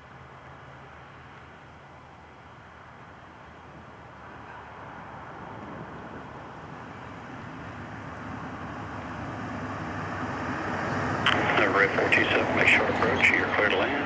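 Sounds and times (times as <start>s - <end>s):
aircraft engine: 0.0s - 14.0s.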